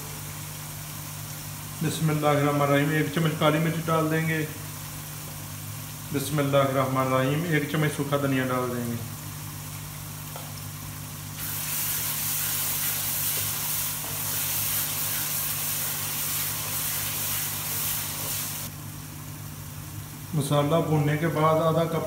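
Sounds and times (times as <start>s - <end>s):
masala sizzling in oil: 0.0s - 20.7s.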